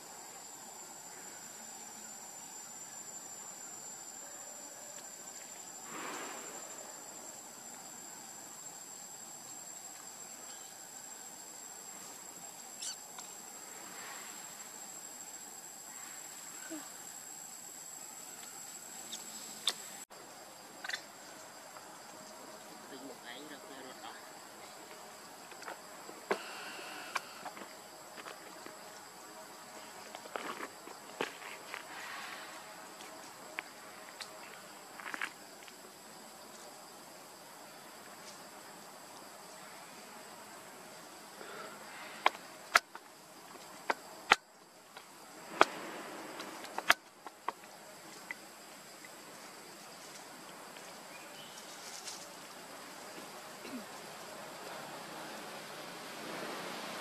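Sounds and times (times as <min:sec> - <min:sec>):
insects whining: 0:00.0 - 0:57.0.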